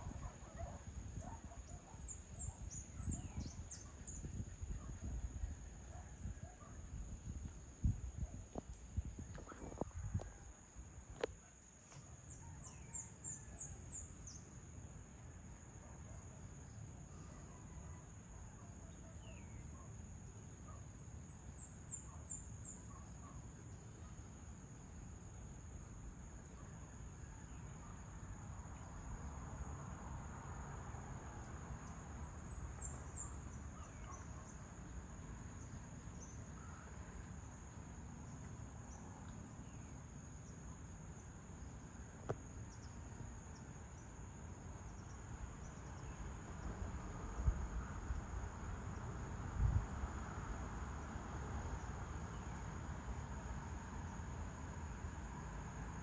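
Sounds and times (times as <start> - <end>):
insect drone: 0.0 - 56.0.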